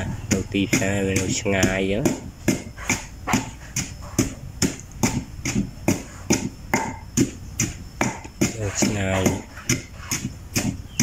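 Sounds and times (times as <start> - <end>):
pestle pounding in stone mortar: 0.0 - 11.0.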